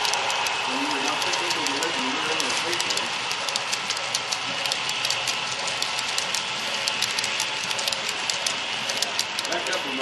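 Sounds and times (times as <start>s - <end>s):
wheels clicking on rail: 0.0s - 10.0s.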